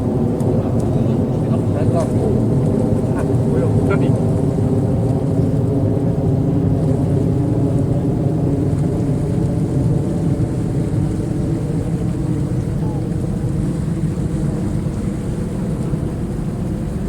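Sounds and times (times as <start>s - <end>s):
waves washing against sea wall: 0.0s - 17.0s.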